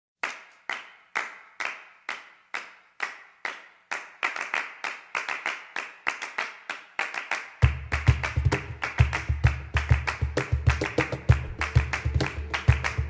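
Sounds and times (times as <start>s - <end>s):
rhythmic hand claps: 0.2s - 13.0s.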